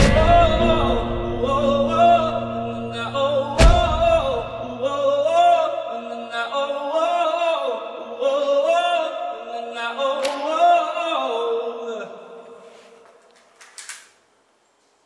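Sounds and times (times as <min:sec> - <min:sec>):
wordless sung vocal: 0:00.0 - 0:13.2.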